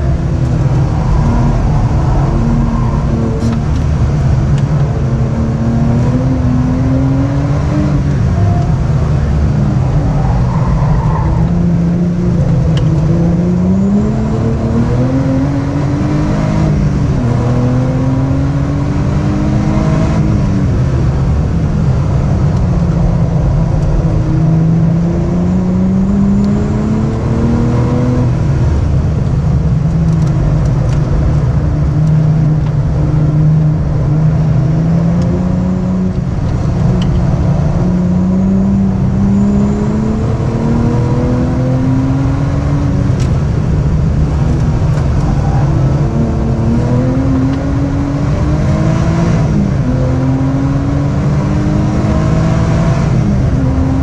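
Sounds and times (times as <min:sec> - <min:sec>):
car engine revving hard: 0:00.0 - 0:21.2, 0:24.1 - 0:29.0, 0:30.1 - 0:54.0.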